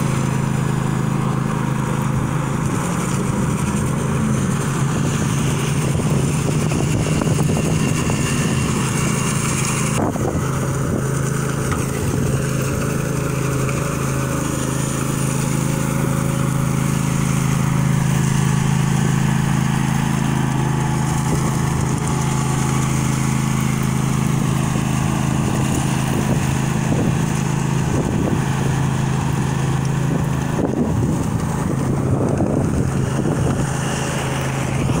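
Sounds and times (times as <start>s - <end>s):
power trowel engine running: 0.0s - 35.0s.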